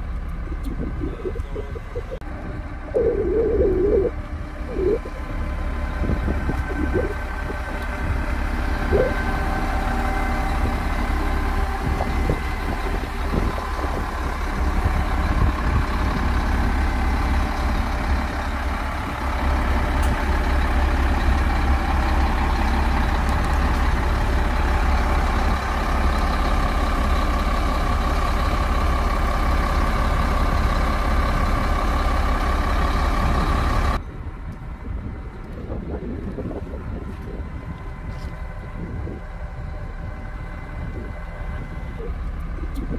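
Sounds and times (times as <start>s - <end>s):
heavy machine diesel engines running: 0.0s - 42.9s.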